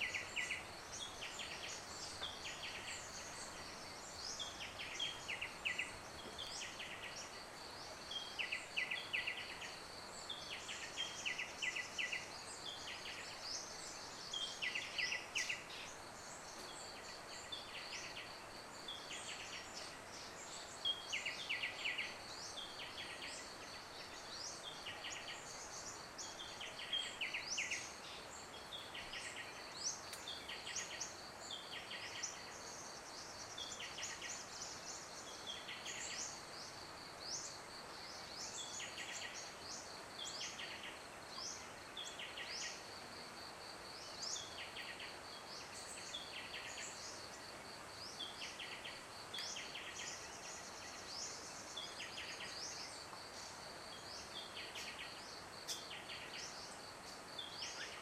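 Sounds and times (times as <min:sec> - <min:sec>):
faint background hiss: 0:00.0 - 0:58.0
insect trill: 0:00.0 - 0:58.0.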